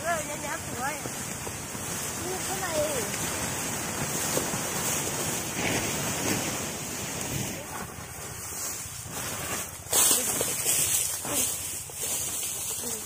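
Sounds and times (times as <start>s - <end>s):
wind on microphone: 0.0s - 12.0s
plastic tarp dragged over straw: 0.0s - 13.0s.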